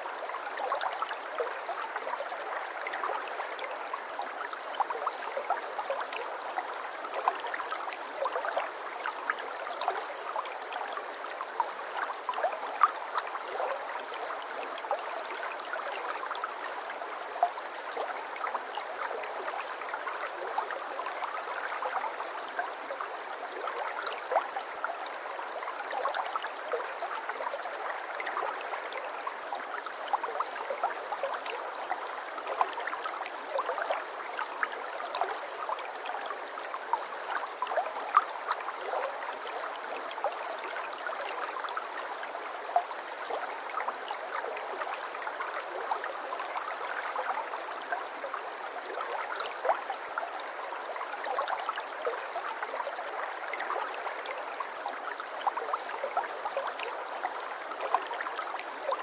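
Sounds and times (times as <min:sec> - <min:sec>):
brook gurgling over stones: 0:00.0 - 0:59.0.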